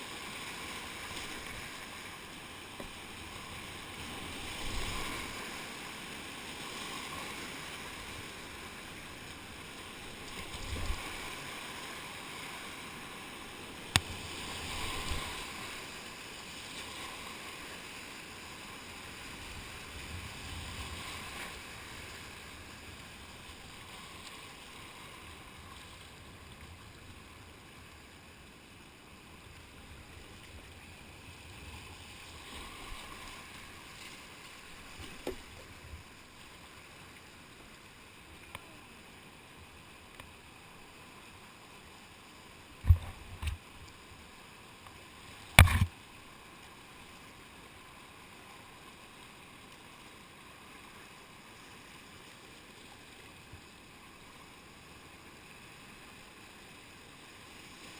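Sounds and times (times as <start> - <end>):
water rushing around kayak: 0.0 - 57.9.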